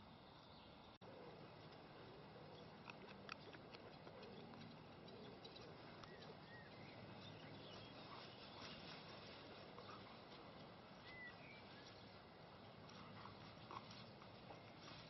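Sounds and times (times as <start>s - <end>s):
faint outdoor hiss: 0.0s - 15.0s
bird chirp: 2.4s - 15.0s.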